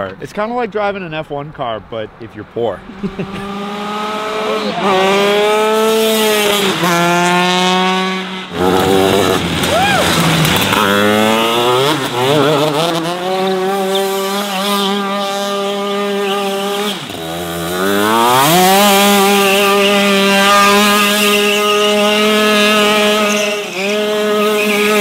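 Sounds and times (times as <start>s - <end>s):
kart engine revving hard: 2.8s - 25.0s.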